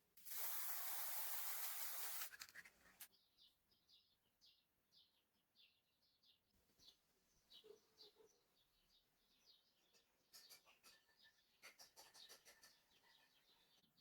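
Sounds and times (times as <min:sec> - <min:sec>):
small birds chirping: 0:00.7 - 0:14.0.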